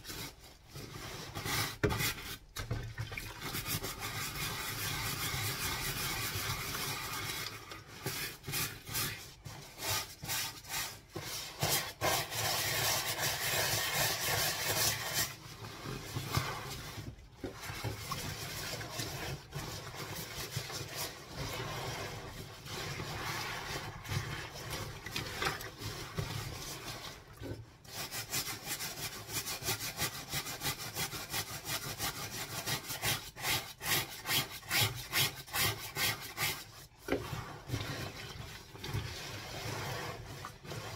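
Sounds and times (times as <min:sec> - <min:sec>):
brush scrubbing wet fabric: 0:00.0 - 0:40.9.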